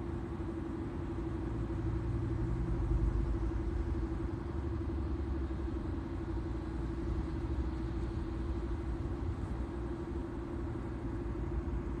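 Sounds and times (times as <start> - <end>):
car hum over low rumble: 0.0 - 12.0.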